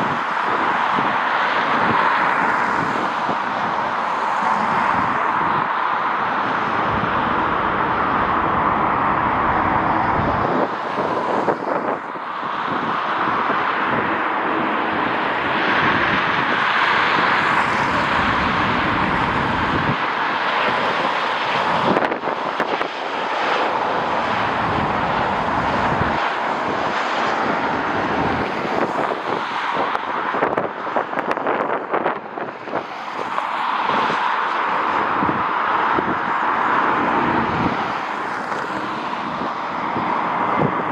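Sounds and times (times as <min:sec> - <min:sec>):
jet engine rushing: 0:00.0 - 0:40.9
wind buffeting microphone: 0:00.0 - 0:40.9.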